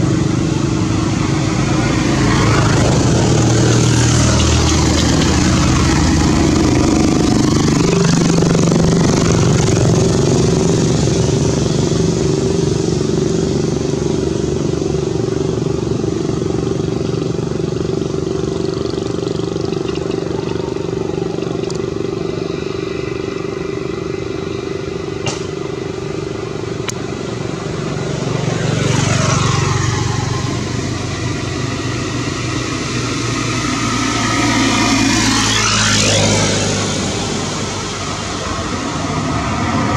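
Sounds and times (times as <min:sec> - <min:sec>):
motor vehicle engine running: 0:00.0 - 0:39.9
vehicle passing by: 0:00.0 - 0:39.9.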